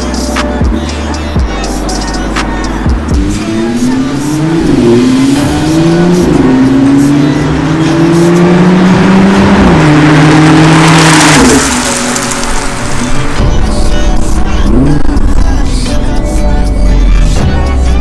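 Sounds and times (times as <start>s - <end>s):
car engine accelerating hard: 1.0s - 16.2s.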